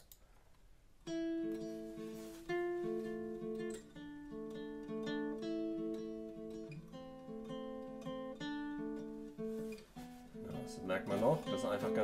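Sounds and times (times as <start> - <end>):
guitar plucked chords and notes: 1.0 - 12.0.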